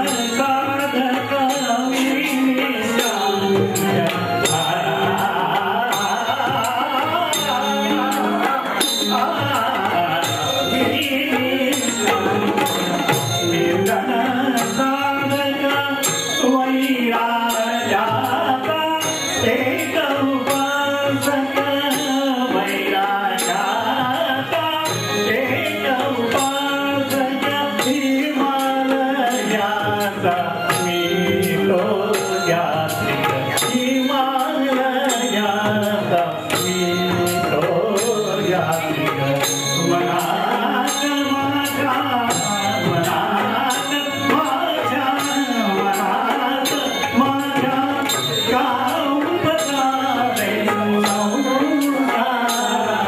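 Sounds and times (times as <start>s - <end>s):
man singing into microphone: 0.0s - 53.0s.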